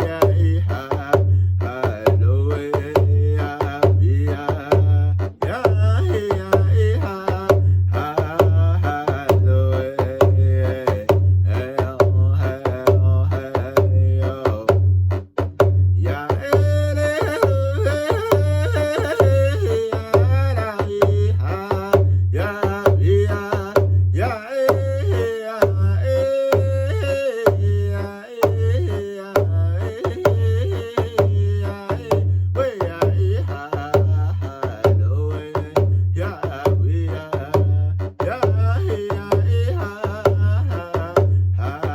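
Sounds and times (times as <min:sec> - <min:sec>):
man singing: 0:00.0 - 0:41.9
steady drumbeat: 0:00.0 - 0:41.9.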